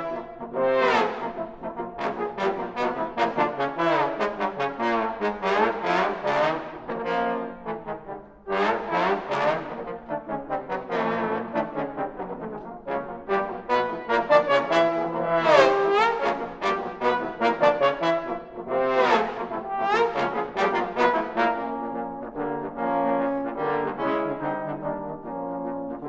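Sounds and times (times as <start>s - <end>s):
trombone ensemble playing: 0.0s - 26.0s.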